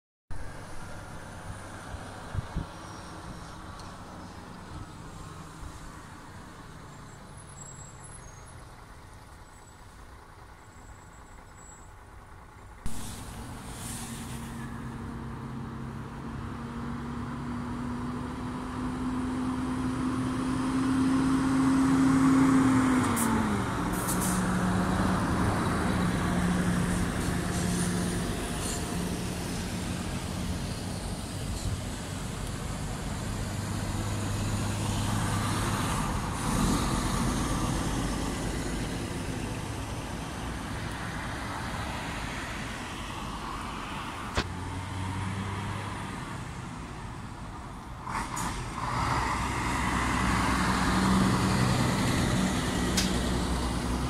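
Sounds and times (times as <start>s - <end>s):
lorry diesel engine drone: 0.3s - 54.0s
passing traffic: 0.3s - 54.0s.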